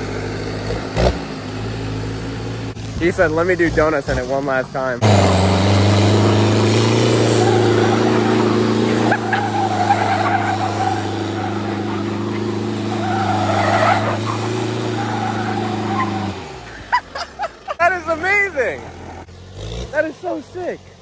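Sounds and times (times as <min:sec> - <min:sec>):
diesel engine running loud: 0:00.0 - 0:21.0
tires scrubbing and skidding: 0:00.0 - 0:21.0.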